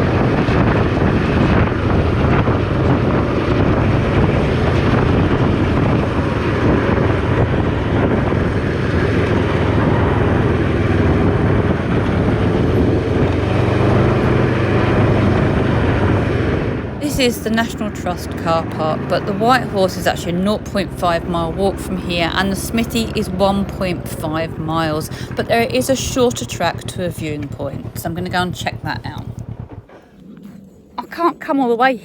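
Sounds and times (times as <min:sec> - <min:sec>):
wind rushing over microphone: 0:00.0 - 0:31.2
motorcycle engine cruising: 0:00.0 - 0:31.7.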